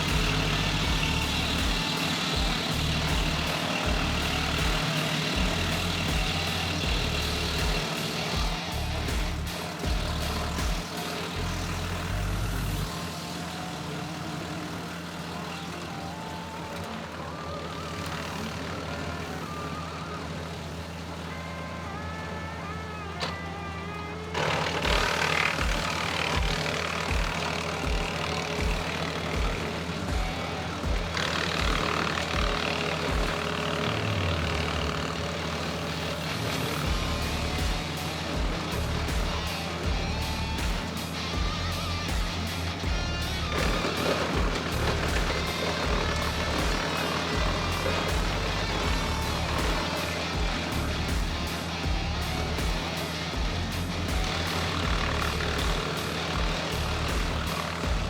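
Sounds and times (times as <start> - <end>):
background music: 0.0 - 58.0
tractor engine running: 0.0 - 58.0.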